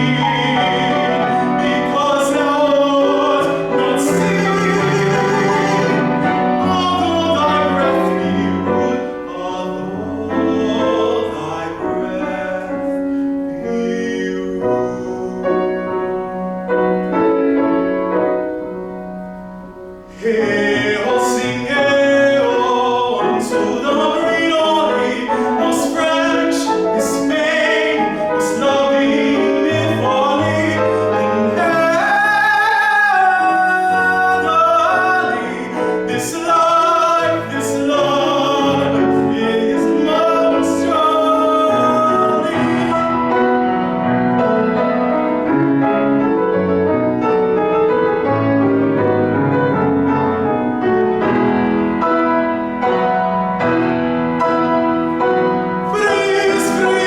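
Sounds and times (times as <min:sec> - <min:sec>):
operatic singing: 0:00.0 - 0:17.2, 0:20.0 - 0:57.0
piano chords: 0:00.0 - 0:57.0.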